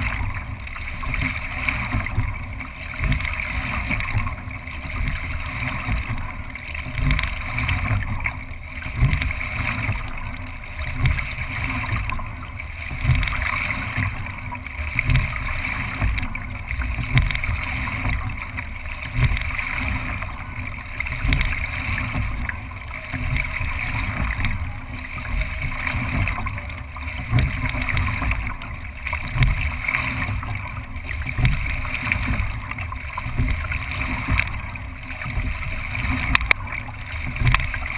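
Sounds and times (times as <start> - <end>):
low knock of rowing stroke: 0.0 - 37.9
water rushing past hull: 0.0 - 37.9.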